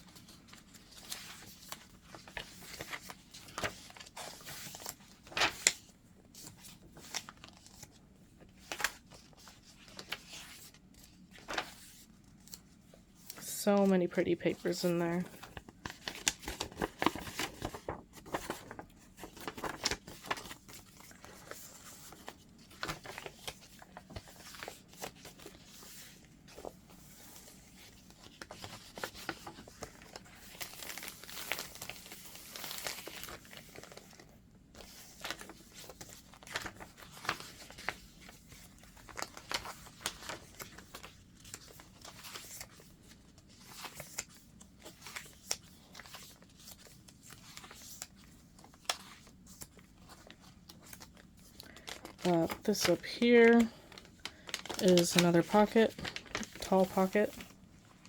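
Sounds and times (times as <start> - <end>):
paper pages rustling and crinkling: 0.0 - 58.0.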